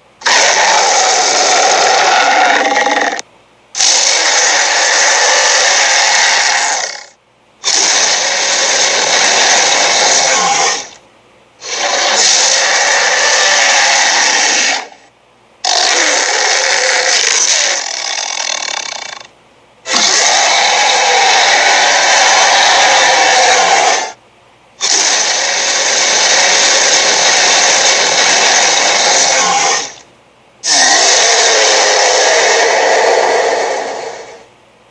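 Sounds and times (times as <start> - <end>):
harsh cartoon noise: 0.2 - 3.2, 3.8 - 11.0, 11.6 - 19.3, 19.9 - 24.2, 24.8 - 30.0, 30.6 - 34.5.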